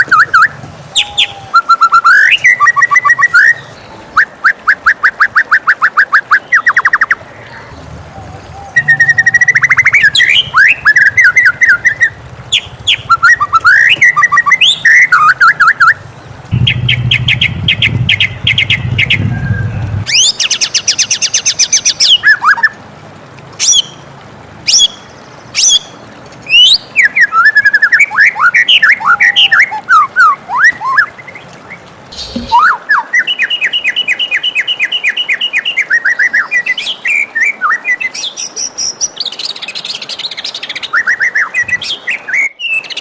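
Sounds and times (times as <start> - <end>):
bird singing varied song: 0.0 - 22.8, 24.7 - 43.0.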